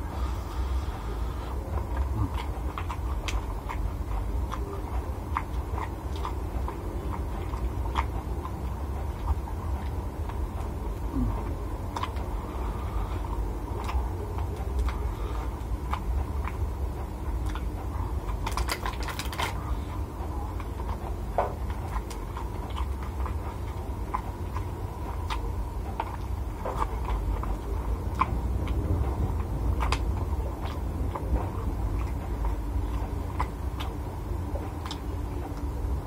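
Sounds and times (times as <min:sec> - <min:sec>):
mouth sounds while eating: 0:00.0 - 0:36.0
steady low hum: 0:00.0 - 0:36.0.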